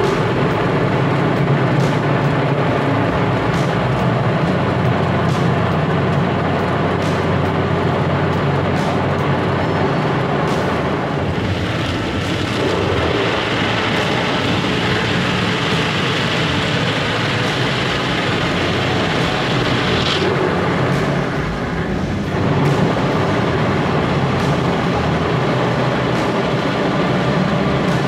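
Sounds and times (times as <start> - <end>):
car wash brushes and water spray: 0.0 - 28.0.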